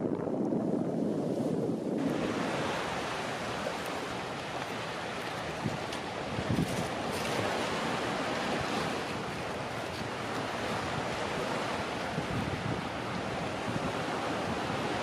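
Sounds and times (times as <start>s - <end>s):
sea surf: 0.0s - 15.0s
wind on microphone: 0.0s - 15.0s.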